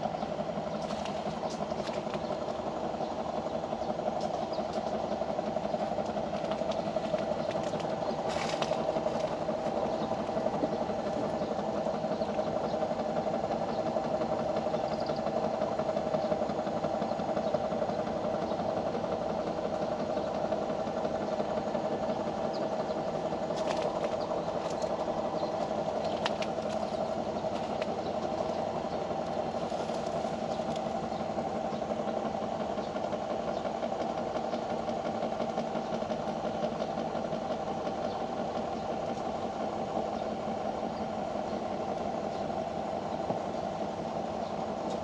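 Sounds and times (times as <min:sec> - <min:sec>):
engine-like hum: 0:00.0 - 0:45.0.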